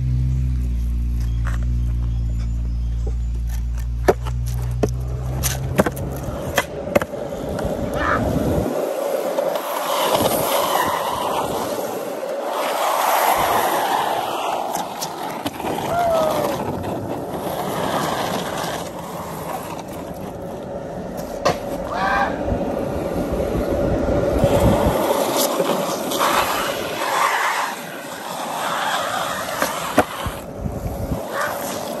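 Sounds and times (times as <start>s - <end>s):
skateboard wheels rolling on pavement: 0.0s - 32.0s.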